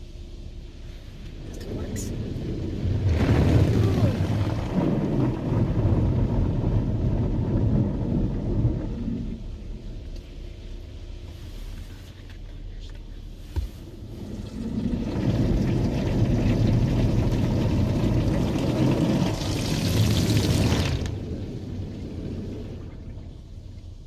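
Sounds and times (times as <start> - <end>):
car wash machine running: 0.0 - 24.0
water spraying on car: 0.8 - 24.0.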